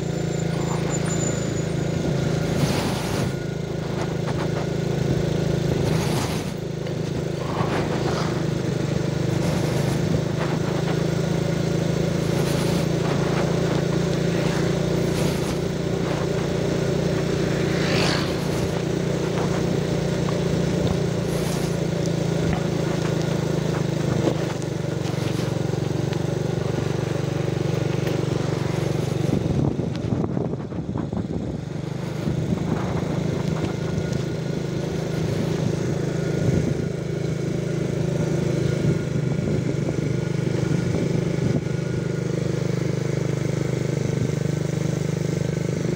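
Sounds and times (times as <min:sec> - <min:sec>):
road noise: 0:00.0 - 0:45.9
small motorcycle engine running: 0:00.0 - 0:45.9
wind: 0:00.0 - 0:45.9.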